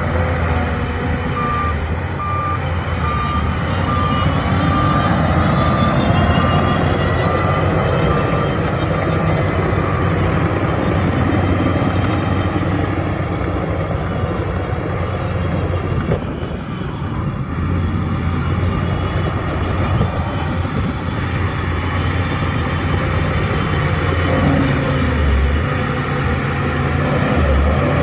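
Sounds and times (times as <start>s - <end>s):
bulldozer diesel engine: 0.0s - 28.0s.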